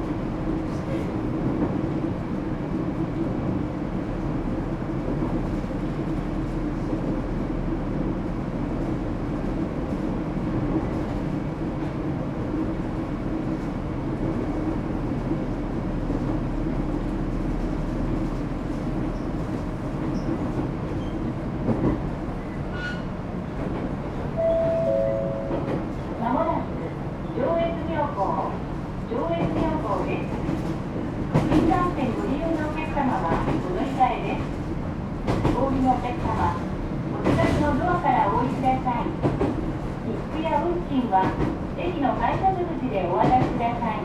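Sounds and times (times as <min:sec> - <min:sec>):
train wheels and traction rumble: 0:00.0 - 0:44.0.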